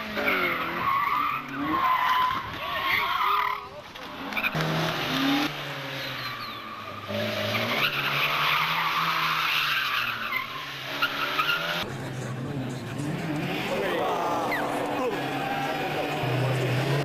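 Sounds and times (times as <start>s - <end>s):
rally car engine revving: 0.0s - 17.0s
tyres skidding: 0.0s - 17.0s.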